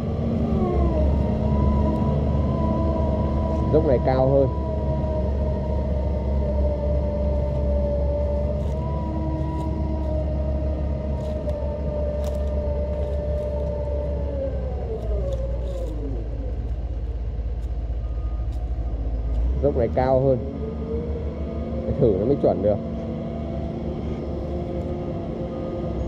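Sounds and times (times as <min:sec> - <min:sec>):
excavator engine rumble: 0:00.0 - 0:26.0
hydraulic whine: 0:00.0 - 0:26.0.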